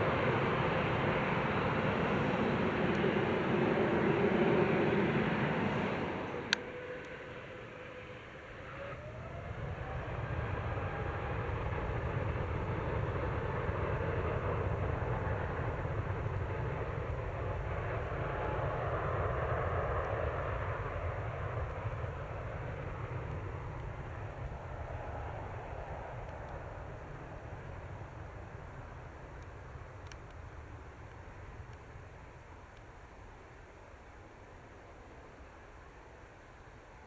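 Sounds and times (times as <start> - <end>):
jet engines at takeoff: 0.0 - 37.0.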